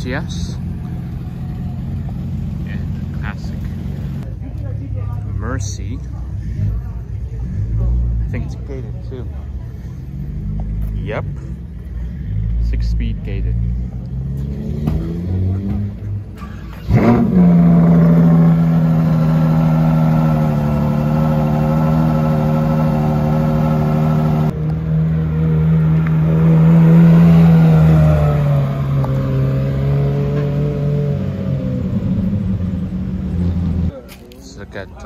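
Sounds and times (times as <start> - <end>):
car engine revving: 0.0 - 4.3, 5.0 - 34.0.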